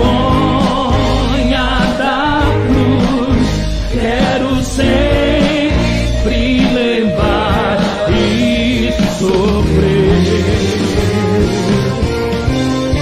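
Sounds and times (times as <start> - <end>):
sustained instrumental backing: 0.0 - 13.0.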